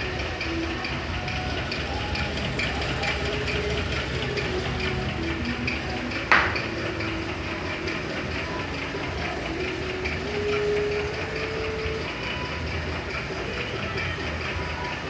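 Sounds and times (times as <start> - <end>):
car engine running: 0.0 - 15.0
rapid engine ticking: 0.0 - 15.0.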